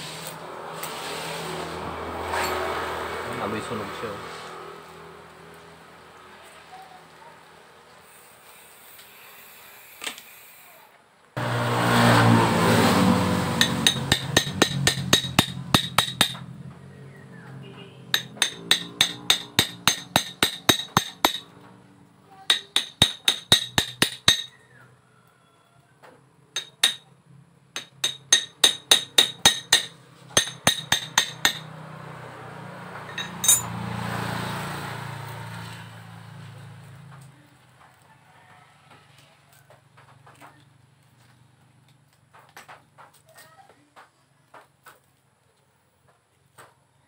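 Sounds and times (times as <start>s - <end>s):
passing motor vehicle: 0.0s - 8.2s, 11.4s - 25.3s, 26.0s - 43.0s.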